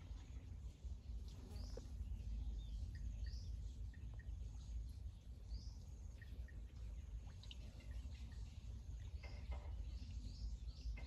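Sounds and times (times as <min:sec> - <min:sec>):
low rumble of outdoor noise: 0:00.0 - 0:11.0.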